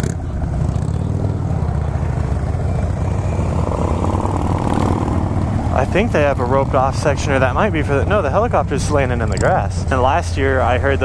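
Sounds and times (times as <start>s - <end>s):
motorcycle engine running at low speed: 0.0s - 11.0s.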